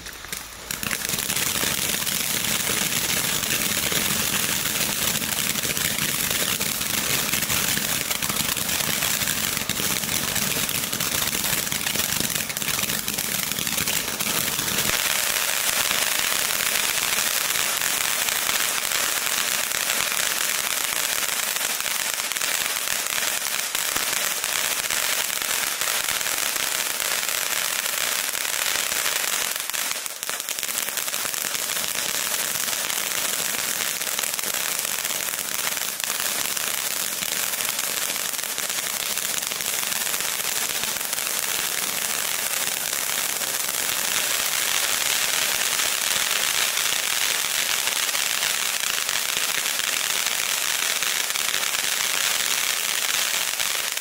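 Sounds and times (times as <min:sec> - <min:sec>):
fountain firework hissing and crackling: 0:00.0 - 0:54.0.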